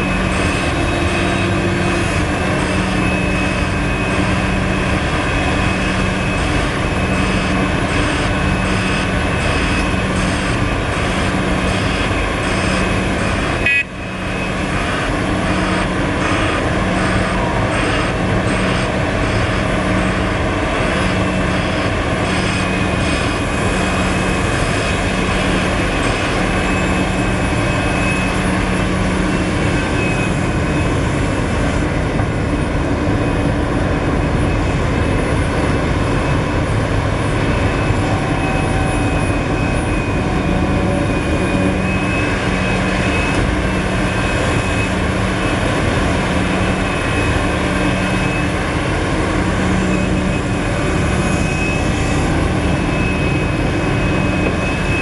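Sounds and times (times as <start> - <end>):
excavator diesel engine: 0.0 - 55.0
steady high whine: 0.0 - 55.0.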